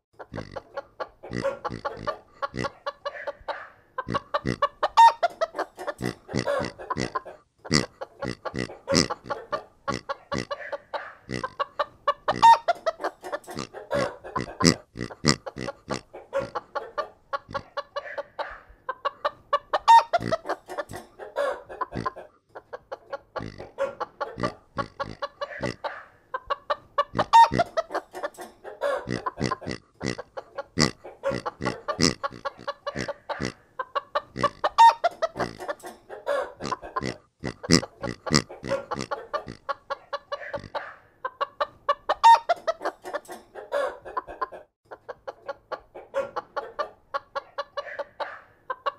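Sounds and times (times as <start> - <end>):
hens clucking: 0.2 - 48.9.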